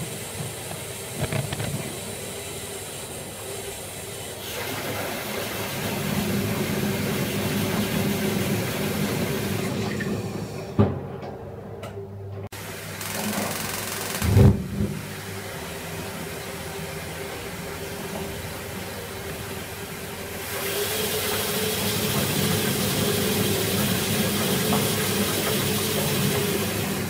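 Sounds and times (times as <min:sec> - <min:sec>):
gas water heater humming and hissing: 0:00.0 - 0:27.0.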